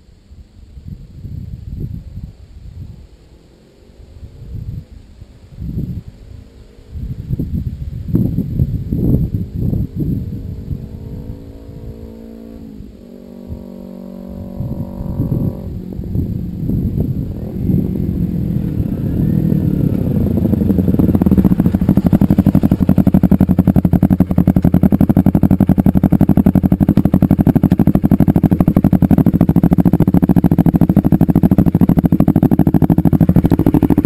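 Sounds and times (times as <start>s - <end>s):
motorcycle engine running: 5.6s - 34.0s.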